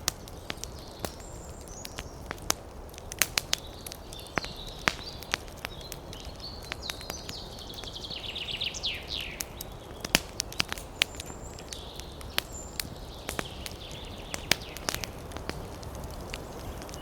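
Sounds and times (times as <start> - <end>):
birds singing: 0.0 - 17.0
campfire crackling: 0.0 - 17.0.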